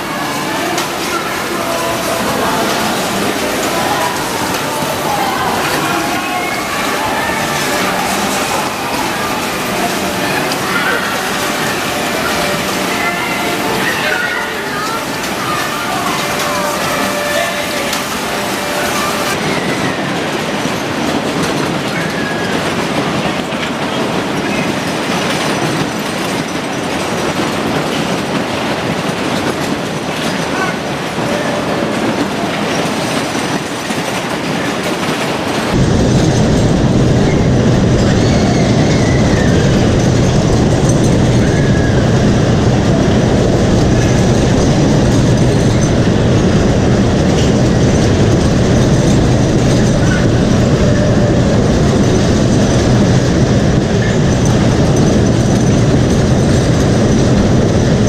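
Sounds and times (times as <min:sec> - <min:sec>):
ride wheels clattering on rails: 0:00.0 - 0:58.0.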